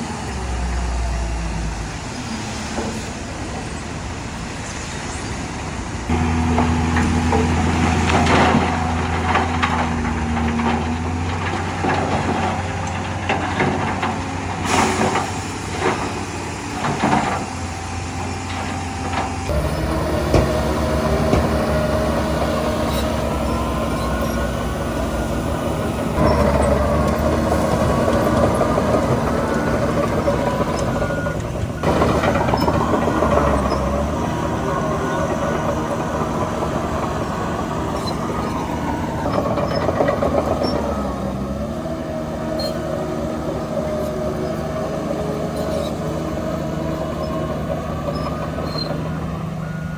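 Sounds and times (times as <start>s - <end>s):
diesel machinery engine: 0.0s - 49.9s
whining engine tones: 6.1s - 49.9s.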